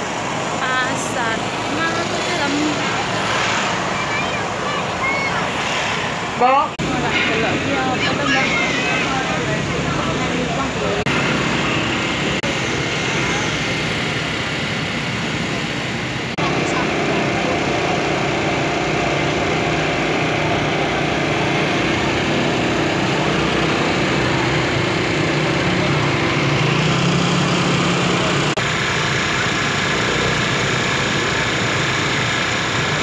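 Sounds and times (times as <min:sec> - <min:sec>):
small engine droning: 0:00.0 - 0:33.0.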